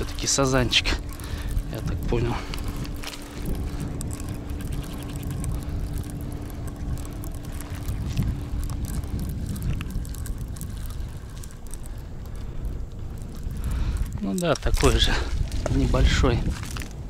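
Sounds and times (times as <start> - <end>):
faint steady hum: 0.0 - 17.0
wind buffeting the microphone: 0.0 - 17.0.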